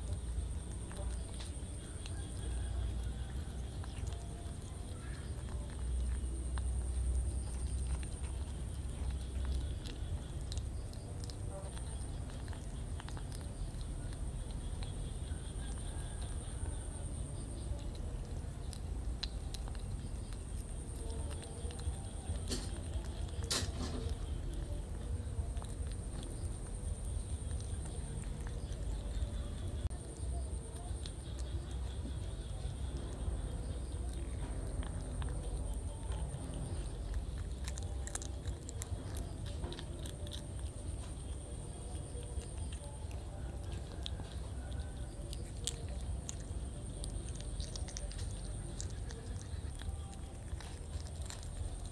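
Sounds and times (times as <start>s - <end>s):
kitten chewing and licking: 0.0s - 51.9s
steady low hum: 0.0s - 51.9s.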